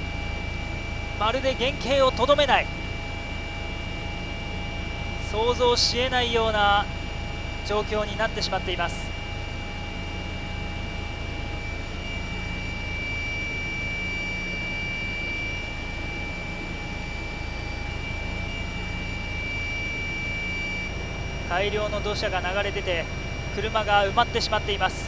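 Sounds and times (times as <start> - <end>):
helicopter engine and rotor hum: 0.0 - 25.0
high whine: 0.0 - 25.0.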